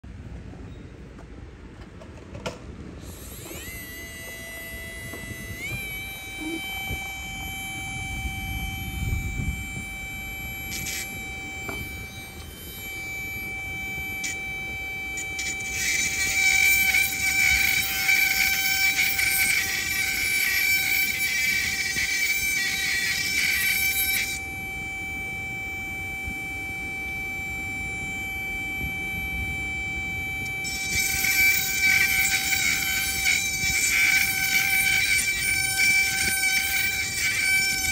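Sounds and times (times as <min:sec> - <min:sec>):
drill bit grinding stone: 0:03.0 - 0:37.9
micro-drill high whine: 0:03.0 - 0:37.9.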